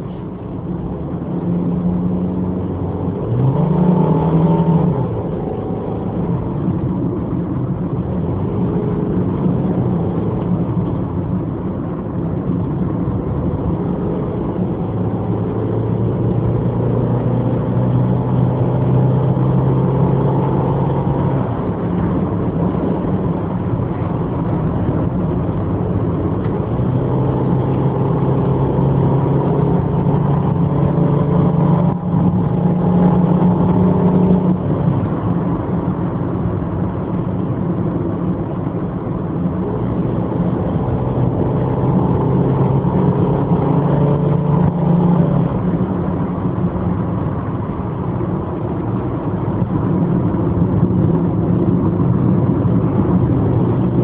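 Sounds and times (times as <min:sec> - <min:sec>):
car engine under load: 0:00.0 - 0:54.0
road and tyre noise: 0:00.0 - 0:54.0.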